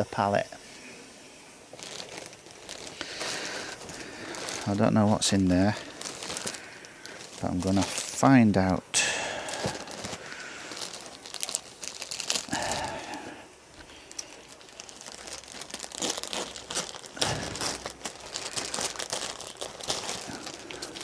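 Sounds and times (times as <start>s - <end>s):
packaging crinkling and rustling: 1.6s - 21.0s.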